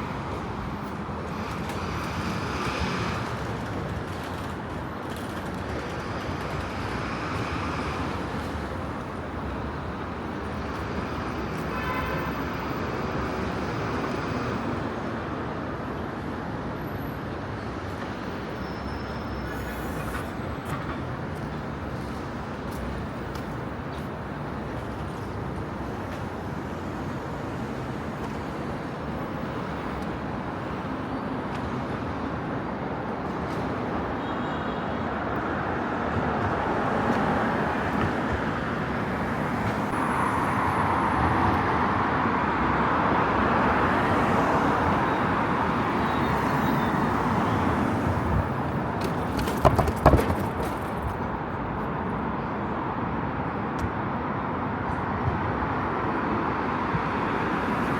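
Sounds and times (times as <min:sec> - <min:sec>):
road traffic: 0:00.0 - 0:57.9.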